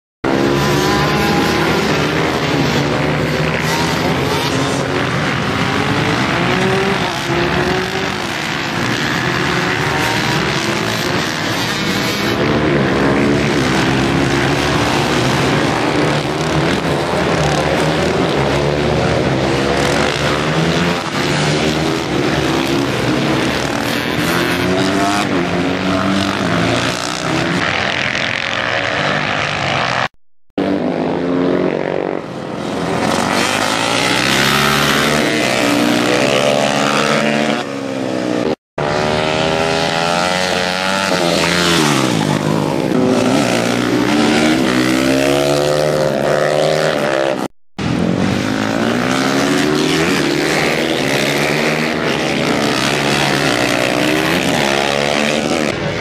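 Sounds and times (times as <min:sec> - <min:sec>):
racing motorcycle engines revving: 0:00.2 - 0:56.0.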